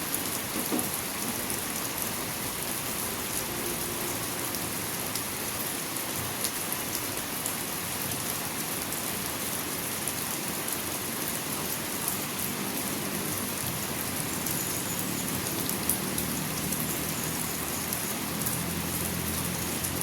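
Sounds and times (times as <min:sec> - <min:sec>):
rain pattering on surfaces: 0:00.0 - 0:20.0.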